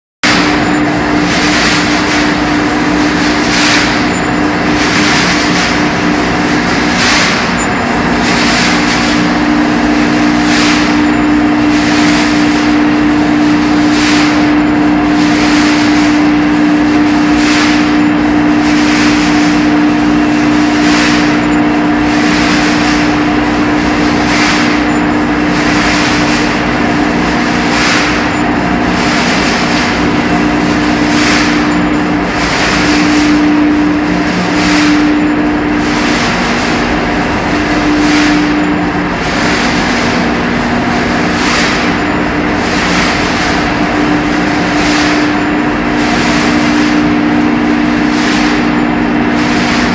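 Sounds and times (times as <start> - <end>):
pump machinery humming: 0.2 - 49.9.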